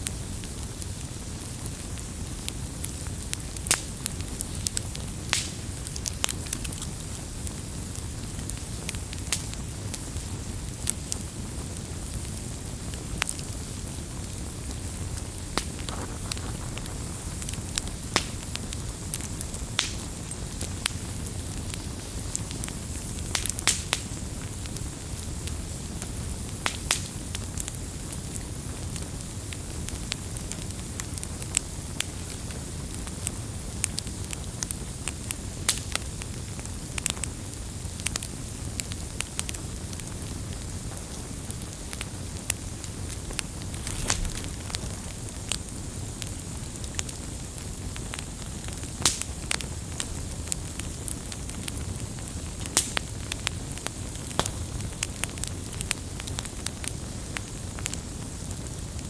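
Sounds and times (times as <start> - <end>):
firewood burning and crackling: 0.0 - 59.0.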